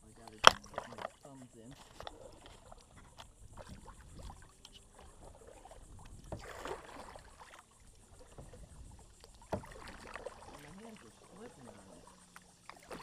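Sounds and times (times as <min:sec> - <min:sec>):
kayak paddles splashing in water: 0:00.0 - 0:13.0.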